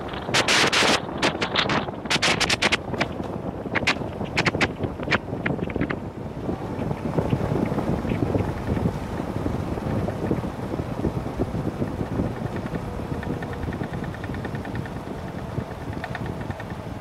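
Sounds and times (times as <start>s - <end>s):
motorcycle engine rumble: 0.0s - 17.0s
wind buffeting microphone: 0.0s - 17.0s.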